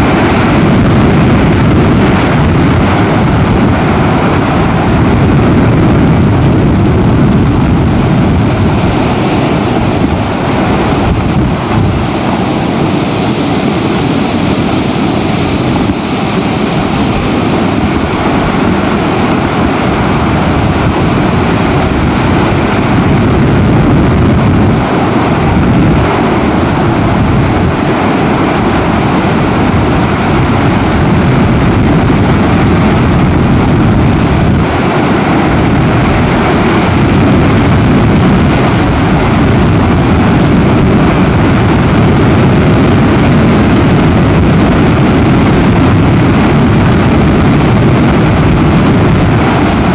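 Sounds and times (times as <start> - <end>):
strong wind on microphone: 0.0 - 49.9.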